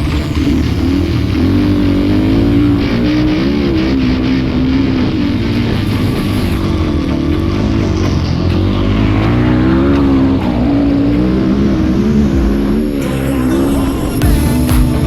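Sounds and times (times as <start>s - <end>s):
small engine revving: 0.0s - 15.0s.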